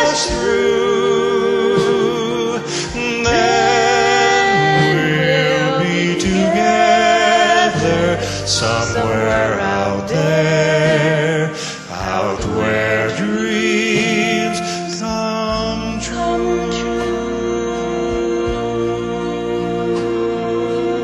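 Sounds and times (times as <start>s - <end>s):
man and woman singing a duet: 0.0s - 21.0s.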